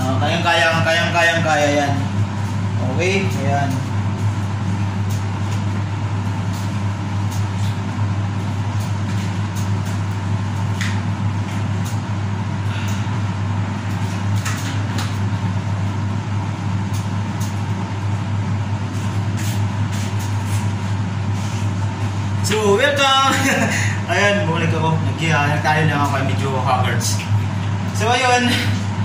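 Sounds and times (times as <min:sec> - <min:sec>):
low electrical machine hum: 0:00.0 - 0:29.0.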